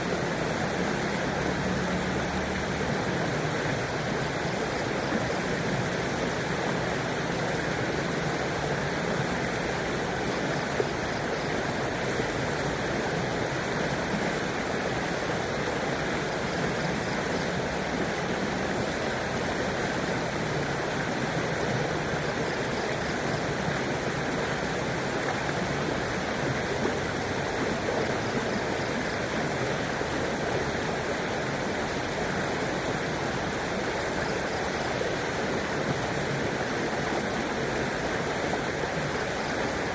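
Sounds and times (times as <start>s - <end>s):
shallow river flowing over stones: 0.0s - 39.9s.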